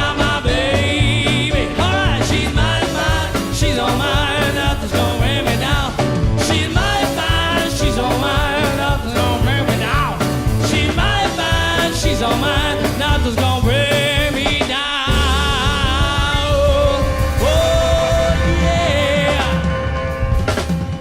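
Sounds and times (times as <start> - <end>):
swing band music: 0.0 - 21.0.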